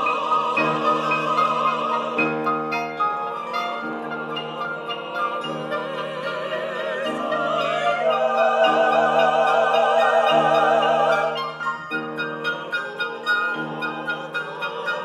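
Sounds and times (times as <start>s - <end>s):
operatic voices singing: 0.0s - 15.0s.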